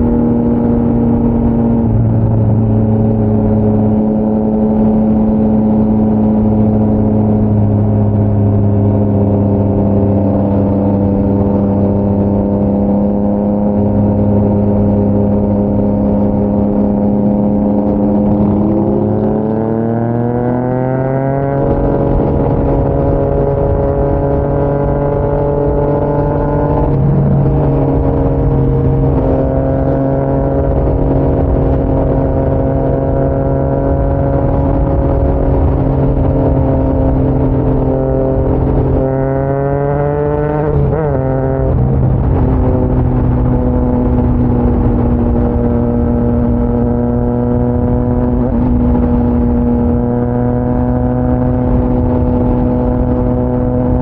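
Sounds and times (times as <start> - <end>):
motorcycle engine running steadily: 0.0 - 54.0.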